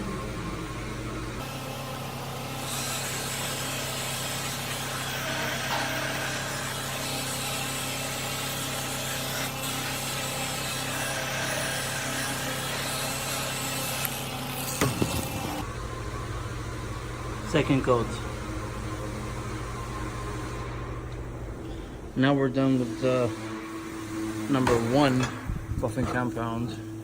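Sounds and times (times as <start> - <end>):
buffing machine humming: 0.0 - 27.0.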